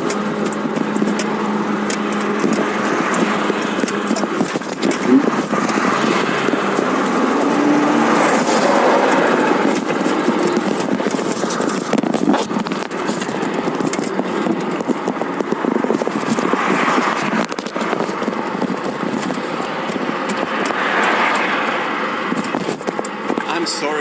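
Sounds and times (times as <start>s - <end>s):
bicycle clicks and rattles: 0.0s - 23.6s
road traffic passing: 0.0s - 24.0s.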